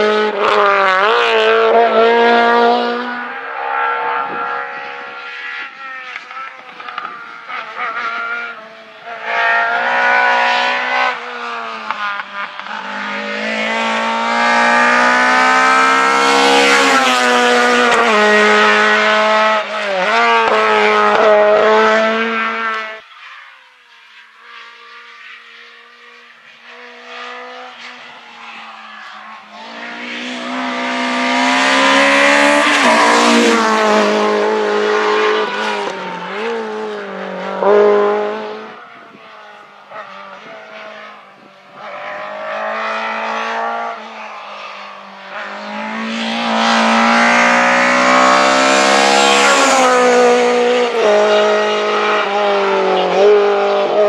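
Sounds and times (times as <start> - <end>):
car engine approaching: 0.0 - 54.0
rally car engine revving: 0.0 - 54.0.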